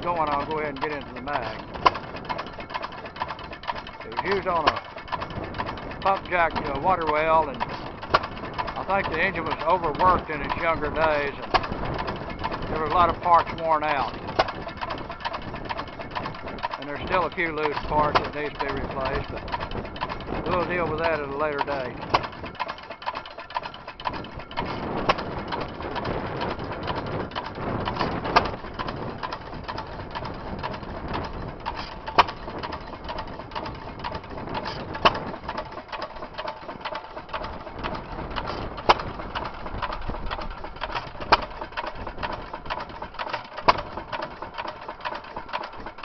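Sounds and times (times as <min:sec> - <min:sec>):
engine clatter: 0:00.0 - 0:46.0.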